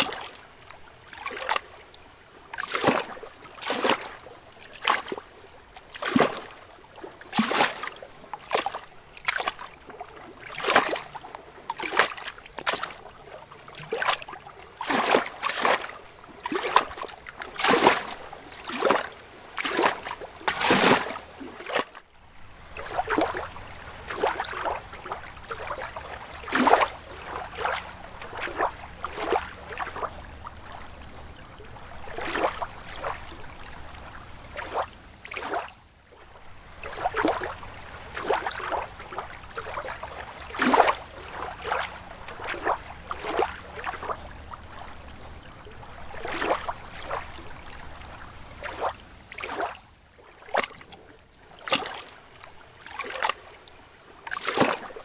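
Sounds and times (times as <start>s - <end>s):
lake water lapping: 0.0s - 55.0s.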